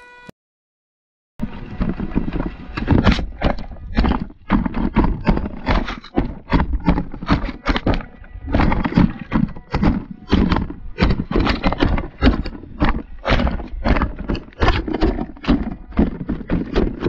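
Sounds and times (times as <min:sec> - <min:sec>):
plastic robot knocking and clattering: 0:01.7 - 0:17.0.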